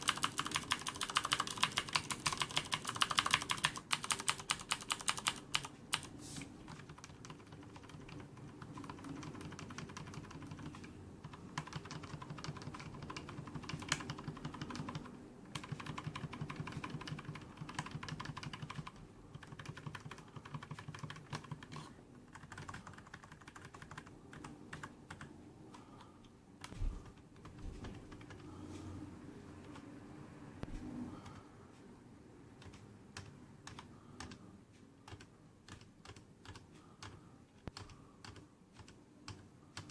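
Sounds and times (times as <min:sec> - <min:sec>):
mechanical keyboard typing clicks: 0:00.0 - 0:06.1, 0:06.7 - 0:25.8, 0:32.6 - 0:34.4, 0:35.0 - 0:39.9.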